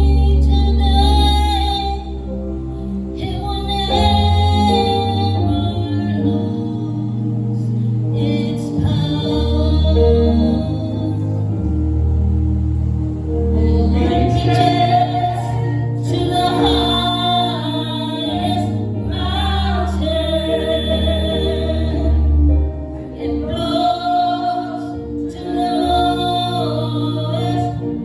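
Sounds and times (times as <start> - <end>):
woman singing gospel: 0.0 - 2.3, 3.1 - 11.6, 13.6 - 28.0
sustained low accompaniment: 0.0 - 28.0.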